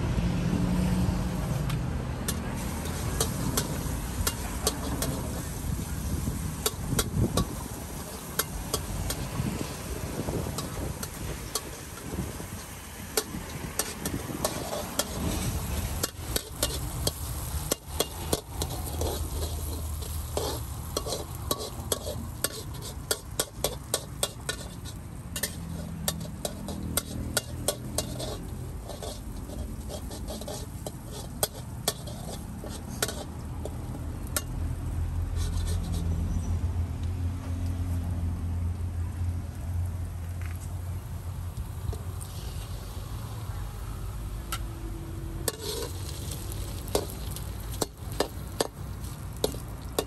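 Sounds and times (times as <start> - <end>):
food sizzling: 2.2 - 36.1, 39.8 - 50.0
metal spatula scraping a wok: 2.2 - 36.5, 41.6 - 43.2, 45.4 - 50.0.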